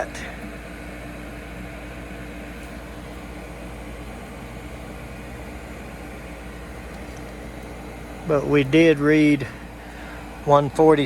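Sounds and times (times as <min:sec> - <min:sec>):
furnace draft inducer motor humming: 0:00.0 - 0:11.0.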